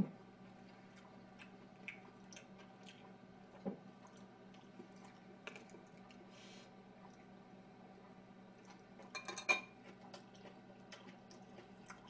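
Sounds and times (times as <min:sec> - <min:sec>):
steady low hum: 0:00.0 - 0:12.0
quiet eating sounds: 0:00.3 - 0:12.0.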